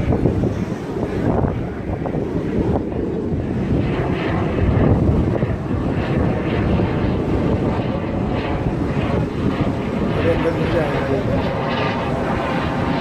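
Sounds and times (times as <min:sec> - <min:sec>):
jet aircraft rumble: 0:00.0 - 0:13.0
wind on microphone: 0:00.0 - 0:13.0.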